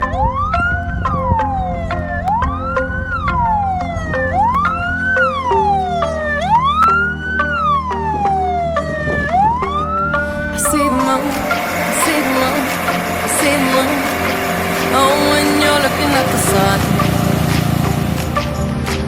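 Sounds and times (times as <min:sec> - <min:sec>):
fire engine siren wailing: 0:00.0 - 0:18.6.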